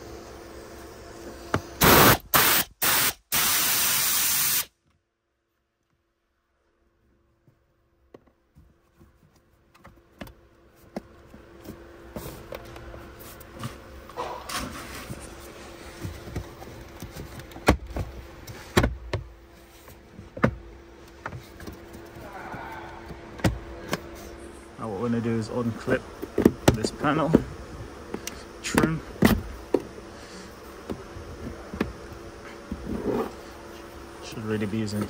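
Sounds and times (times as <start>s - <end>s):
faint steady hum: 4.6s - 35.0s.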